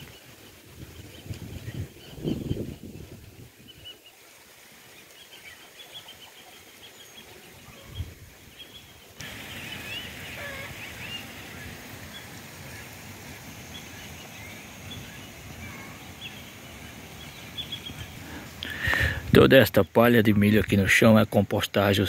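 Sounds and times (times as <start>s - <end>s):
small birds chirping: 0.0s - 22.0s
steady outdoor hiss: 0.0s - 22.0s.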